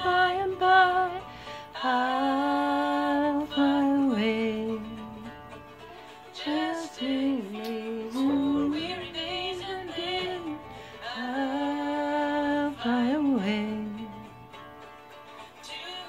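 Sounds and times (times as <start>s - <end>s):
woman singing slow song: 0.0s - 5.4s, 6.3s - 14.4s, 15.6s - 16.0s
light guitar accompaniment: 0.0s - 16.0s.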